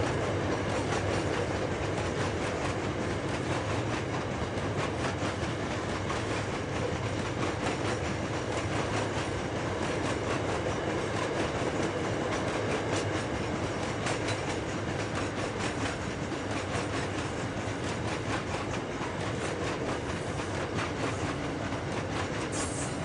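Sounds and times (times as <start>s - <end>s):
wheels rumbling on rail: 0.0s - 23.0s.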